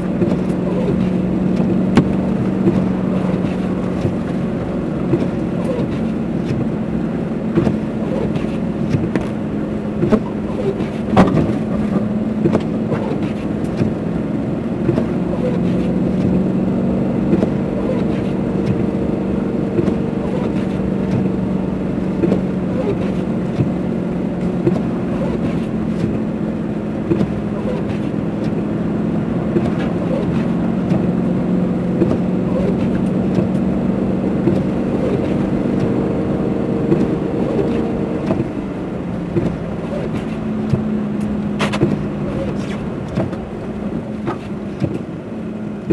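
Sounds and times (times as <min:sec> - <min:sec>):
car engine and road hum: 0:00.0 - 0:45.9.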